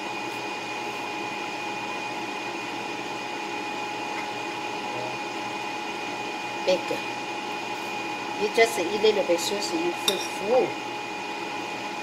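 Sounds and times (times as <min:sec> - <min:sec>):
appliance motor whirring hum: 0:00.0 - 0:12.0.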